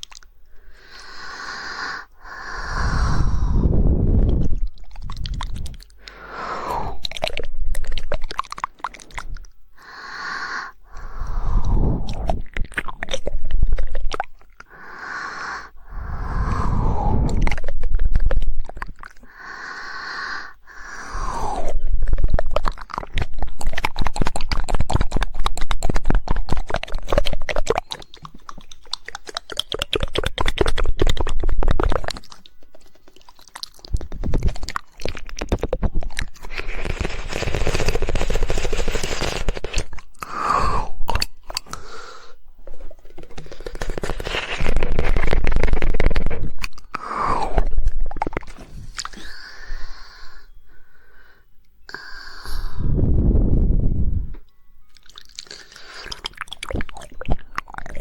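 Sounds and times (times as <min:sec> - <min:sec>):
rapid tongue clicks: 0:00.0 - 0:50.5, 0:54.4 - 0:58.0
wet mouth and tongue sounds: 0:00.0 - 0:50.6, 0:51.8 - 0:58.0.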